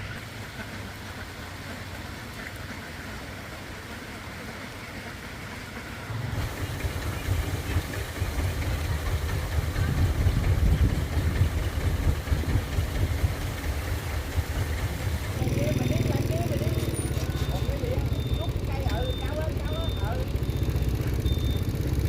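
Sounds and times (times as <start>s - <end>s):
vehicle engine pulsing rumble: 0.0s - 22.0s.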